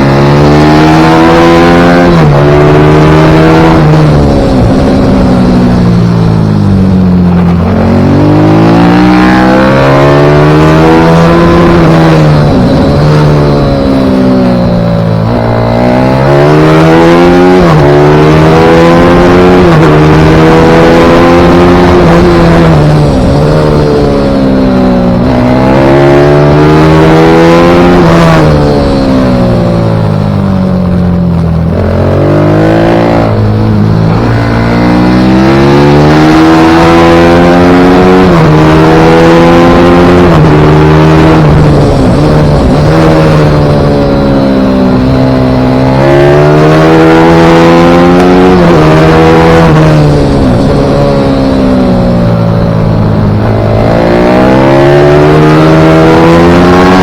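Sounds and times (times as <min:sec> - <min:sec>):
pit bike engine accelerating: 0:00.0 - 0:57.0.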